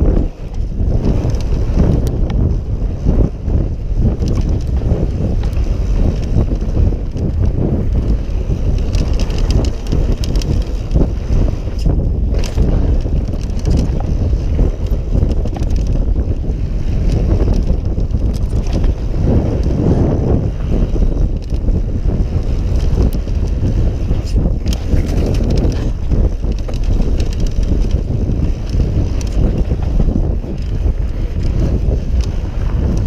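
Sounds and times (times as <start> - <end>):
bike clicks and rattles: 0.0 - 33.0
tyres rumbling on dirt: 0.0 - 33.0
wind buffeting microphone: 0.0 - 33.0.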